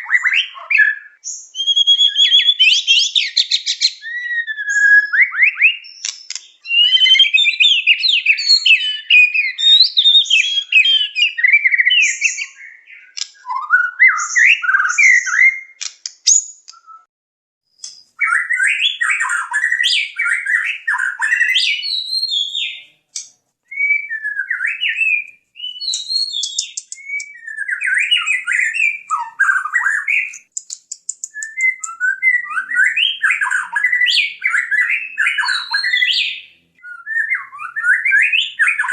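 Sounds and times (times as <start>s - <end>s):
bird singing whistled phrases: 0.0s - 17.1s, 18.0s - 22.9s, 23.7s - 38.9s.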